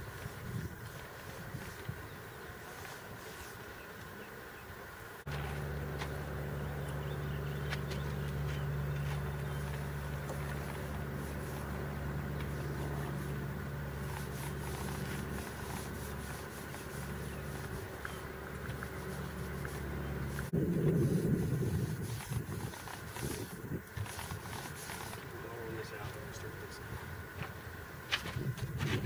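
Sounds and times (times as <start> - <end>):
mechanical hum: 0.0 - 29.0
rough low rumble: 5.3 - 29.0.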